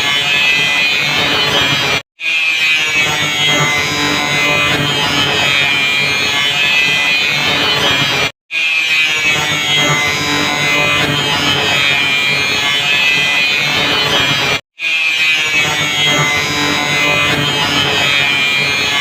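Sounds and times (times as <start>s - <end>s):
electric grinder whining: 2.3s - 8.0s, 8.6s - 19.0s.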